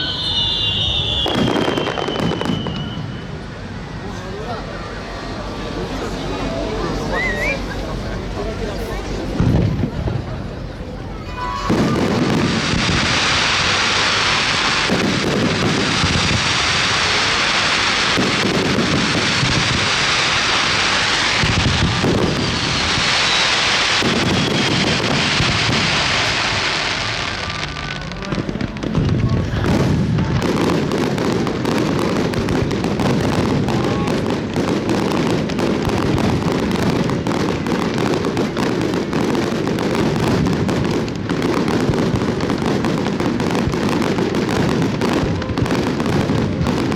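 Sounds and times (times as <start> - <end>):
fireworks bangs and cracks: 0.0 - 46.9
fireworks crackling and hissing: 0.0 - 46.9.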